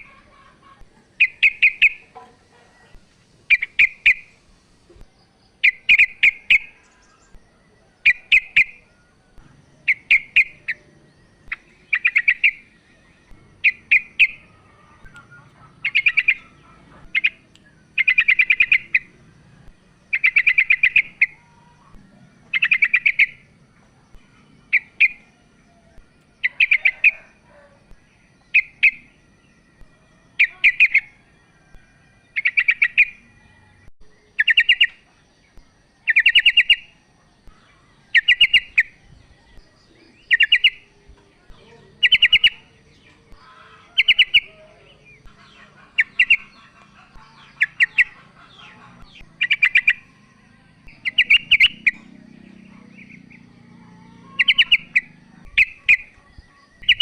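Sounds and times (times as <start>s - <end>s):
bulbul rapid chattering calls: 0.0s - 4.6s, 5.6s - 29.2s, 30.4s - 33.2s, 34.2s - 57.0s.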